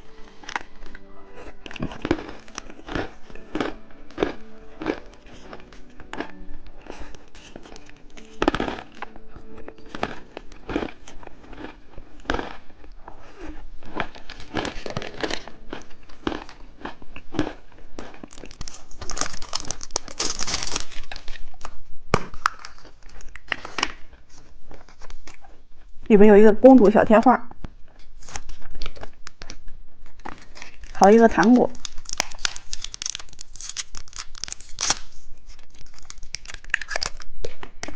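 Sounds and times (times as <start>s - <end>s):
plastic packaging crinkling: 0.0s - 25.6s, 27.9s - 37.9s.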